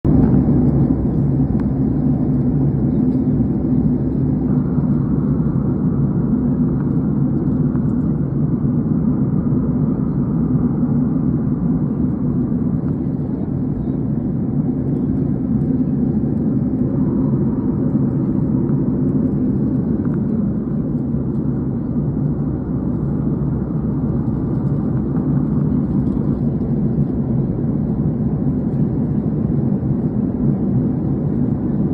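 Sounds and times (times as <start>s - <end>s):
aeroplane cabin engine drone: 0.0s - 31.9s.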